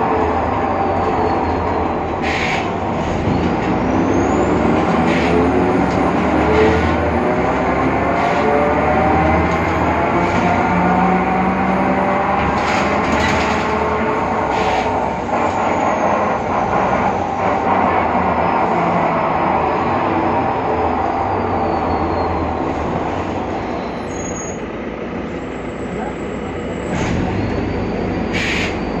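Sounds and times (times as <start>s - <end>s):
bus cabin running noise: 0.0s - 29.0s.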